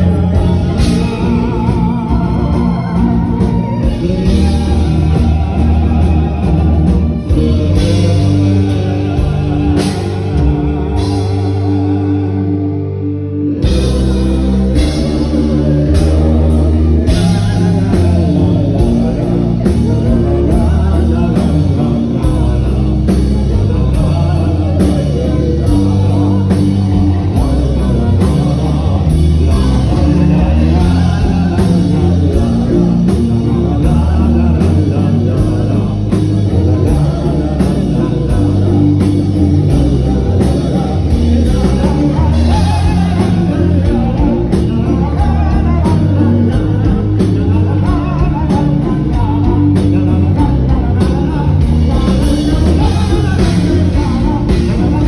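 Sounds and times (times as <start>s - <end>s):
man and woman singing: 0.0s - 55.0s
metal band playing live: 0.0s - 55.0s.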